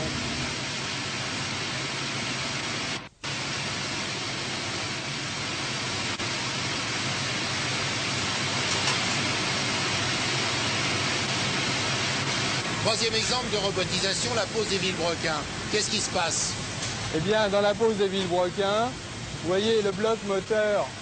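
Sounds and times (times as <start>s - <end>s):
factory floor hiss: 0.0s - 21.0s.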